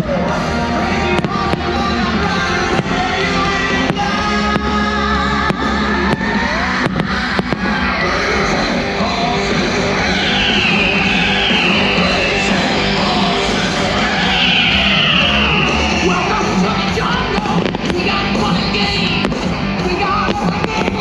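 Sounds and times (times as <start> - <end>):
fireworks bangs: 0.0 - 21.0
show music: 0.0 - 21.0.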